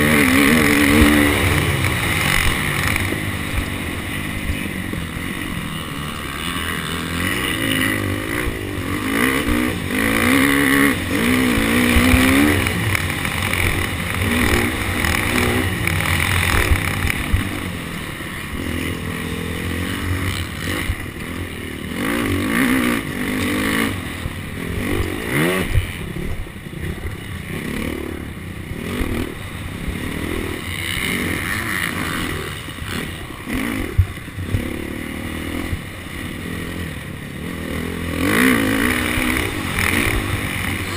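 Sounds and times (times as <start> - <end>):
motocross engine revving: 0.0 - 40.9.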